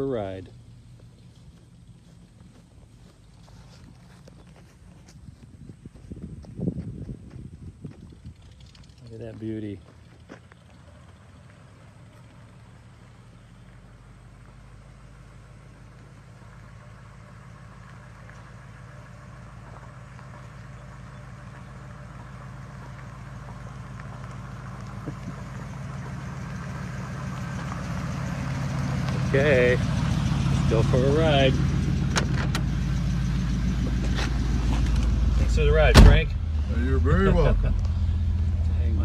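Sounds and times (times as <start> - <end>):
car engine running slowly: 0.0 - 39.0.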